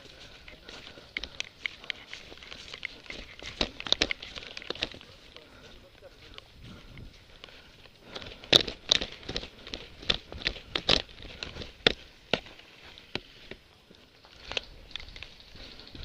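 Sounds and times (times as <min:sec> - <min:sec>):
footsteps crunching dry leaves: 0:00.0 - 0:16.0.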